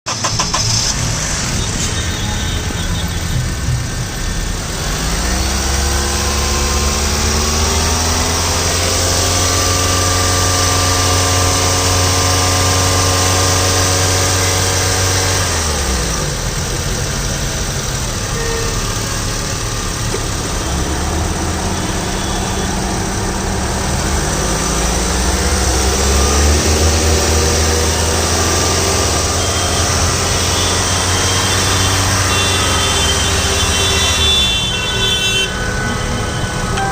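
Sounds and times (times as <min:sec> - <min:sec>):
car engine revving: 0:00.1 - 0:36.9.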